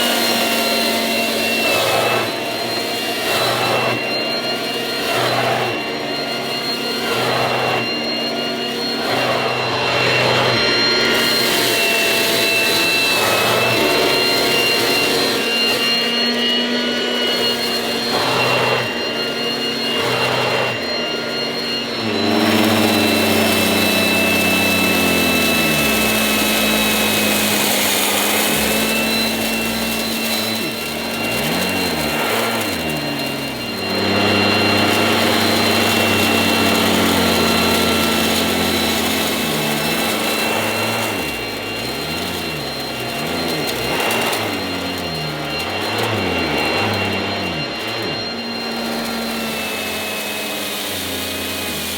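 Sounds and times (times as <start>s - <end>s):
handheld vacuum cleaner whining: 0.0s - 51.9s.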